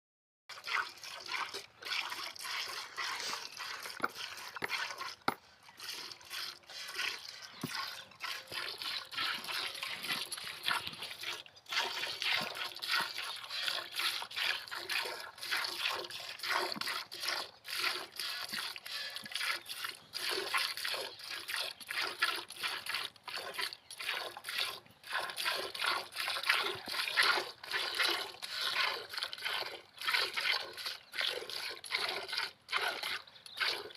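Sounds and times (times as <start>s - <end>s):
milk squirting into pail: 0.5s - 33.9s.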